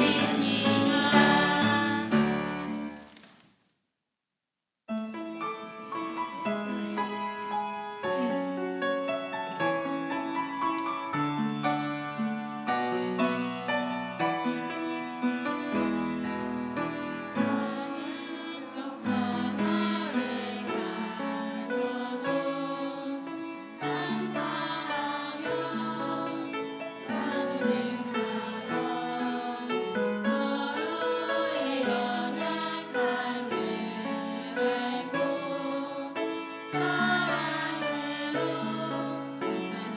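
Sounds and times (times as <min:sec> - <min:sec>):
gospel singing: 0:00.0 - 0:03.1, 0:06.4 - 0:39.9
piano accompaniment: 0:00.0 - 0:03.2, 0:04.9 - 0:39.9.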